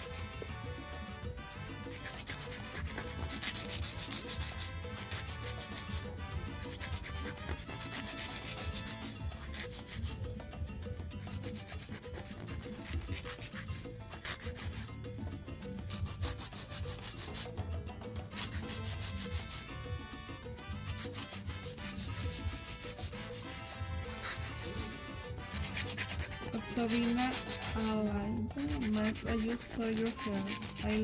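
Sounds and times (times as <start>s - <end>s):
nail file rasping: 0.0s - 0.6s, 1.8s - 10.5s, 11.2s - 17.6s, 18.2s - 19.8s, 20.7s - 31.0s.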